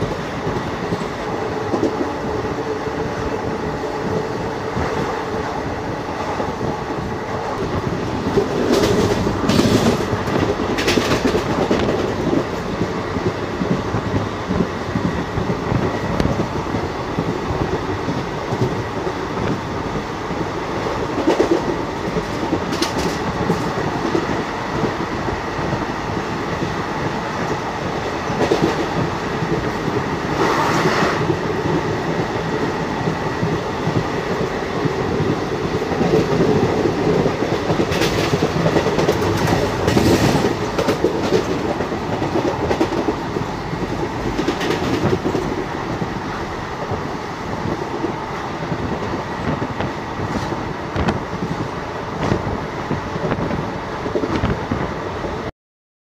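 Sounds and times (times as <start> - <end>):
rushing air: 0.0 - 55.4
clickety-clack over rail joints: 0.0 - 55.5
train wheels rumbling on rail: 0.0 - 55.5.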